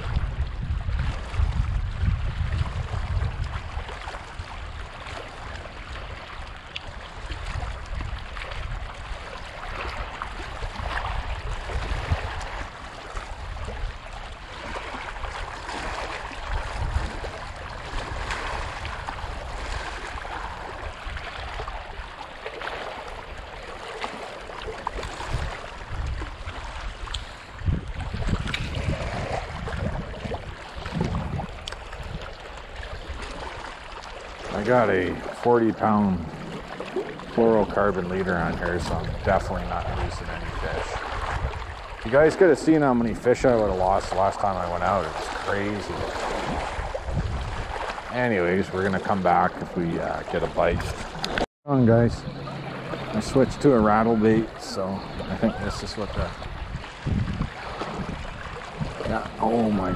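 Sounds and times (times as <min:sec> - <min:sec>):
waves lapping on rocks: 0:00.0 - 0:59.9
wind on microphone: 0:00.0 - 0:59.9.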